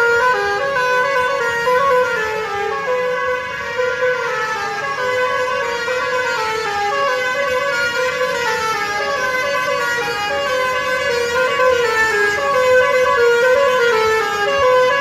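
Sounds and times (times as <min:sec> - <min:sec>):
bus musical horn playing a tune: 0:00.0 - 0:15.0.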